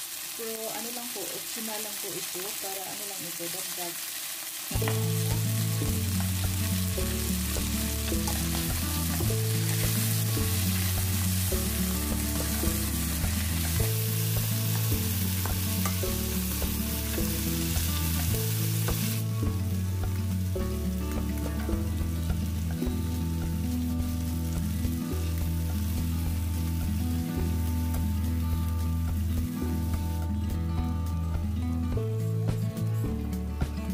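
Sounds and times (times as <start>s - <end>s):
meat and onion sizzling in oil: 0.0s - 32.6s
background music with bass line: 4.7s - 33.9s.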